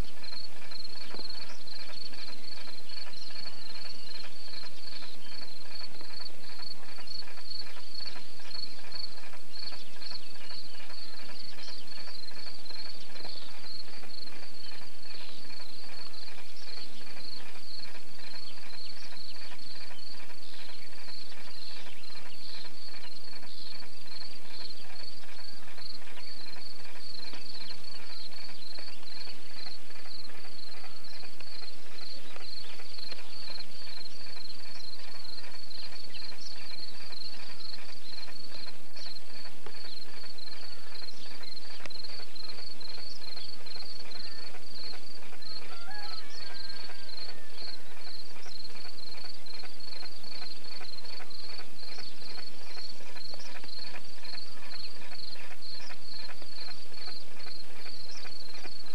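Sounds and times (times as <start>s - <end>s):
bird calling: 0.0s - 58.9s
cricket chirping: 0.0s - 58.9s
faint rural background: 0.0s - 58.9s.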